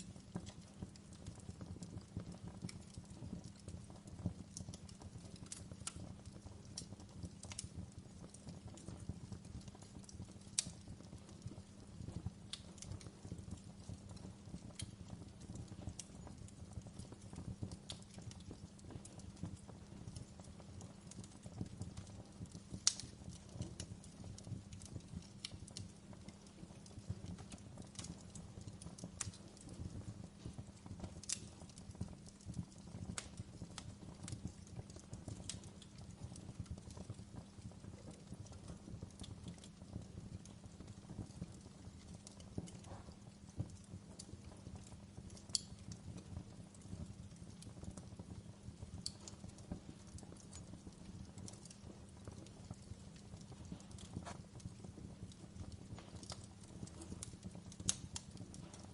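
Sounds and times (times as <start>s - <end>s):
fire crackling and popping: 0.0s - 58.9s
fire rumbling: 0.0s - 58.9s.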